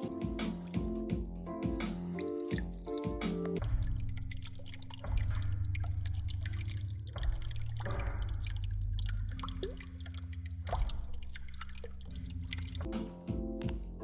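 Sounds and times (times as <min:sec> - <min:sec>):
water pouring and splashing: 0:00.0 - 0:13.6.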